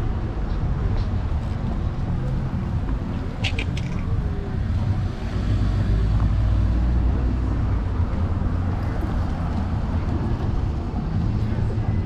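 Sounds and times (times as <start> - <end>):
passing traffic: 0.0 - 12.0
wind rumble on microphone: 0.0 - 12.0.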